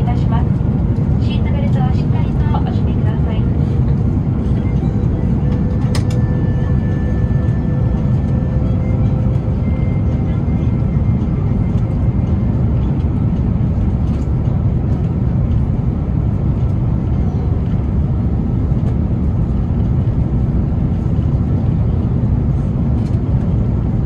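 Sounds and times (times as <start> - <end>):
aircraft cabin engine rumble: 0.0 - 24.0.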